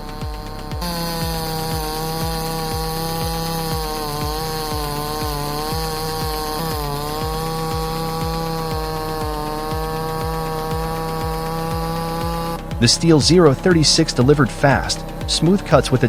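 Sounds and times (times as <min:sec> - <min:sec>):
background music with steady beat: 0:00.0 - 0:16.0
chainsaw cutting log: 0:00.0 - 0:16.0.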